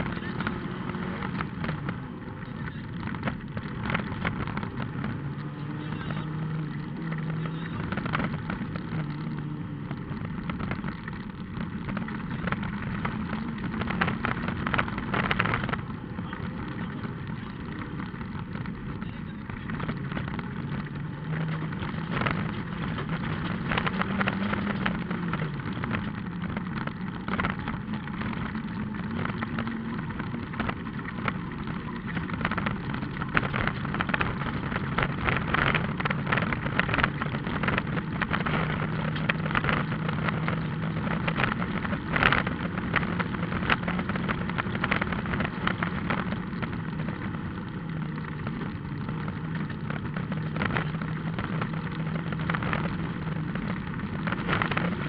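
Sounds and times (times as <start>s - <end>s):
car engine revving: 0.0s - 55.0s
car rattling over gravel: 0.0s - 55.0s.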